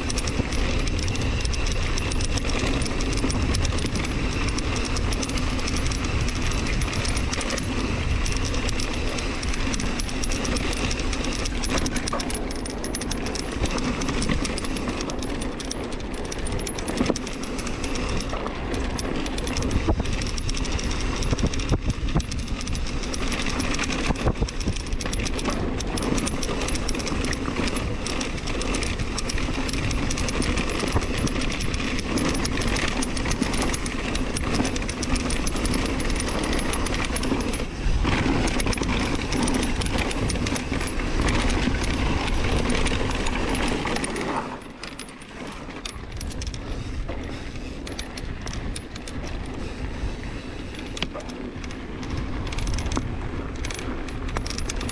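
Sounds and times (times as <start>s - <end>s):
bike rattling on dirt trail: 0.0s - 54.9s.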